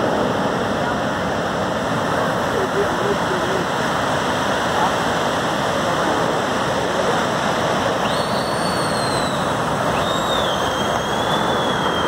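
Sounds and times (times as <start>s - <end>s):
high engine whine: 0.0s - 12.0s
military jets roaring overhead: 0.0s - 12.0s.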